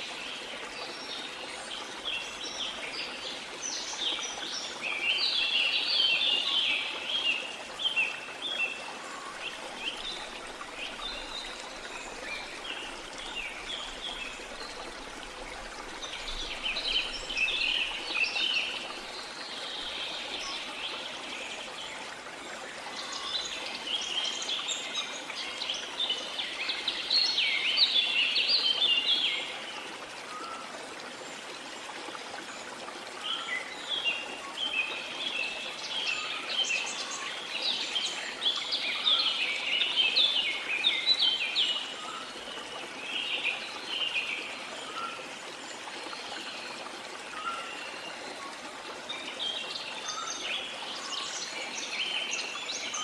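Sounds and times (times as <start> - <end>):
running water rushing: 0.0 - 53.0.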